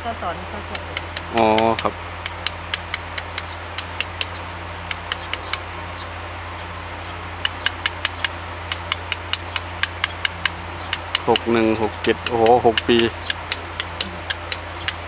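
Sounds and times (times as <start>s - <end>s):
hammer tapping a chisel: 0.8s - 5.6s, 7.4s - 15.0s.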